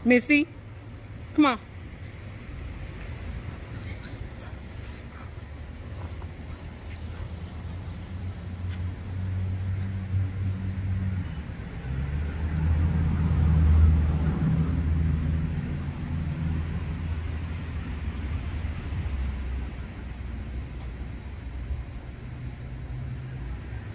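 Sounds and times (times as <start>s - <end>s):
low engine hum: 0.0s - 23.9s.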